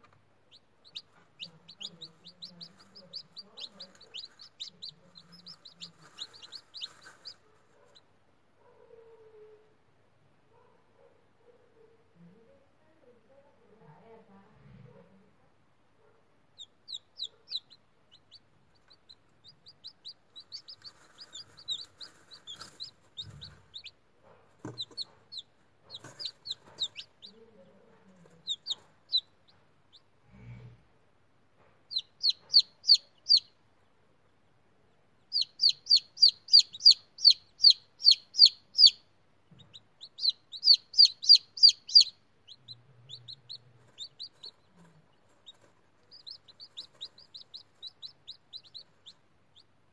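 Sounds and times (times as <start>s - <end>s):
chicks peeping: 0.0s - 8.1s, 16.6s - 30.8s, 31.6s - 49.9s.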